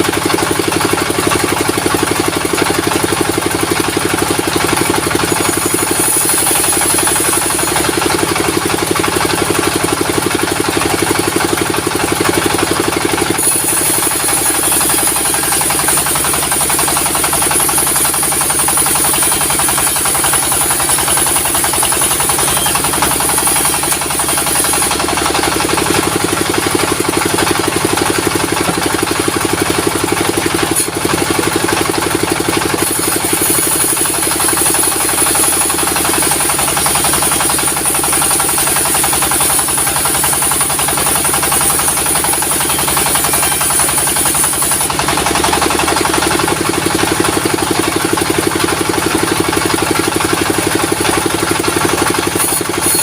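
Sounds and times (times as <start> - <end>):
sawmill machinery pulsing: 0.0 - 53.0.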